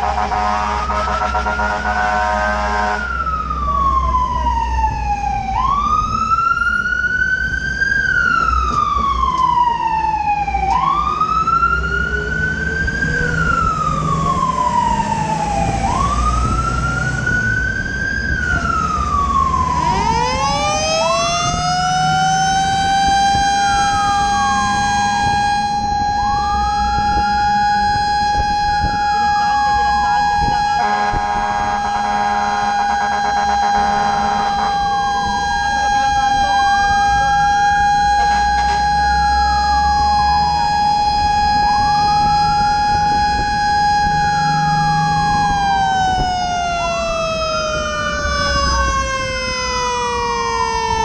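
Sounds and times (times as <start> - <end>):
fire truck siren wailing: 0.0 - 51.0
road noise: 0.0 - 51.0
truck engine rumble: 0.0 - 51.0
second siren tone: 8.2 - 51.0.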